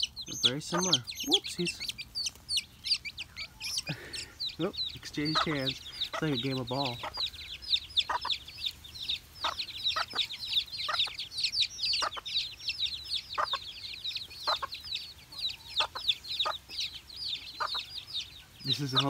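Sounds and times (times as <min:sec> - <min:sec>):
baby chicks peeping: 0:00.0 - 0:19.0
hen clucking: 0:00.0 - 0:19.0.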